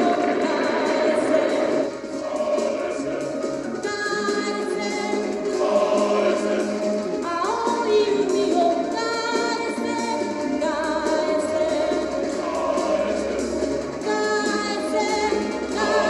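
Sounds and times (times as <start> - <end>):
choir singing with instruments: 0.0 - 16.0.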